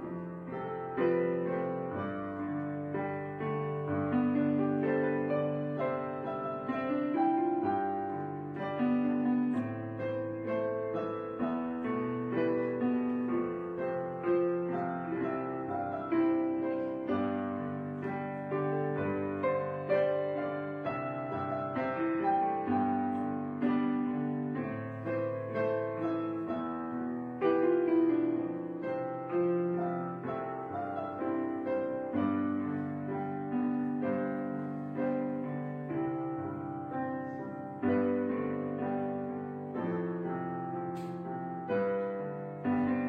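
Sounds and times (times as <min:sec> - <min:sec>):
soft solo piano piece: 0:00.0 - 0:43.0.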